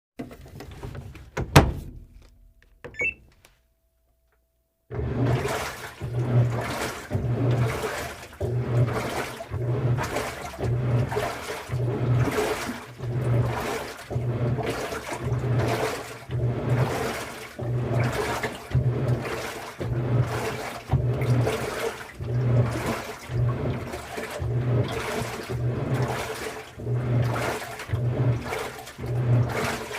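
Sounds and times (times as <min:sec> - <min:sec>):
washing machine sloshing water: 0:04.9 - 0:29.9.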